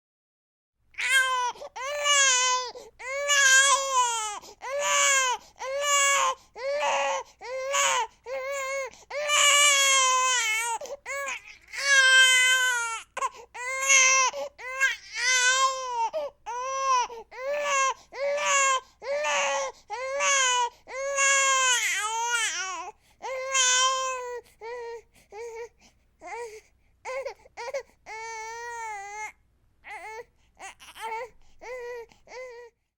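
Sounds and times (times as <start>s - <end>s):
newborn baby crying: 1.0s - 32.8s.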